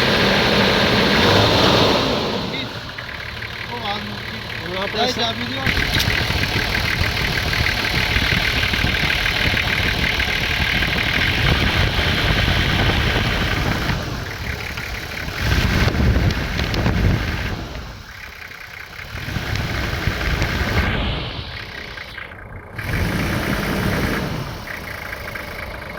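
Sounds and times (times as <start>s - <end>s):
diesel engine idling: 0.0s - 25.9s.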